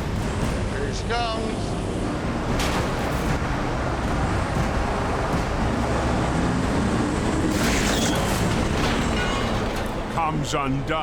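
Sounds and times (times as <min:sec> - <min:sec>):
diesel engine working under load: 0:00.0 - 0:10.6.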